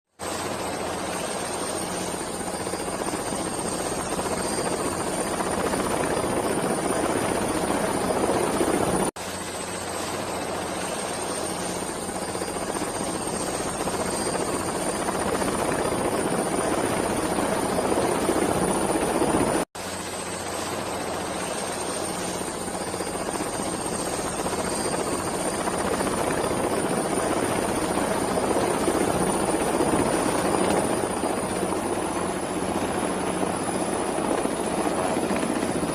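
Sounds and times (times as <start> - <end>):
helicopter rotor and turbine: 0.1 - 35.9.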